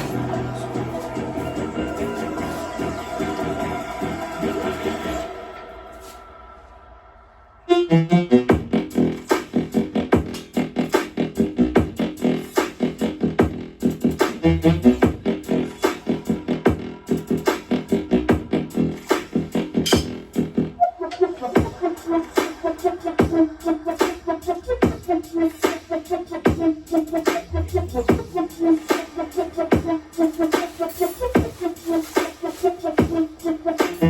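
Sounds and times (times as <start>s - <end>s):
electronic music with fast beat: 0.0s - 5.6s, 7.7s - 34.0s.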